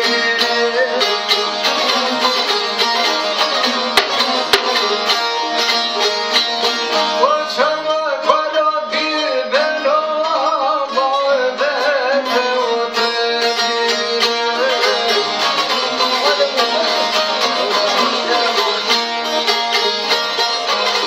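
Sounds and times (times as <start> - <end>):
man singing: 0.0 - 5.3, 7.0 - 19.2
plucked lutes and guitar: 0.0 - 21.0.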